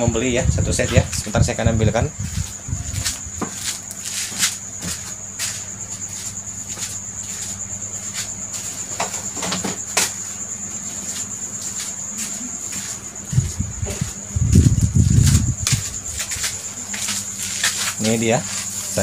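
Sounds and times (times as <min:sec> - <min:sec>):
insect trill: 0:00.0 - 0:19.0.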